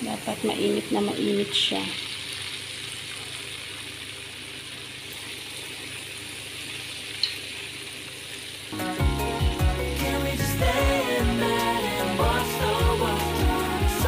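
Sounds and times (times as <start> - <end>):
hot butter sizzling on flour: 0.0 - 14.0.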